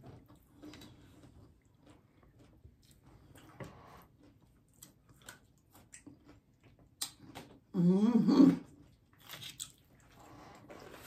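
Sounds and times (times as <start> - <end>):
people chewing with mouth clicks: 0.0 - 11.0.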